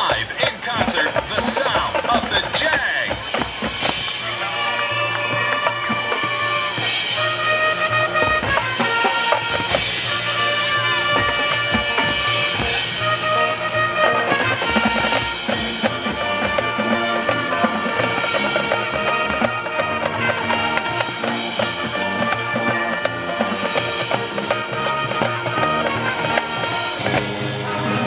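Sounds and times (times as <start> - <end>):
drum and percussion hits: 0.0 - 28.0
marching band playing: 0.0 - 28.0.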